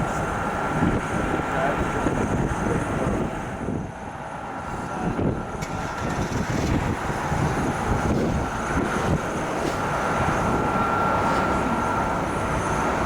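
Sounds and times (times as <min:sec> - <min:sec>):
jet engines rumbling and whining: 0:00.0 - 0:13.0.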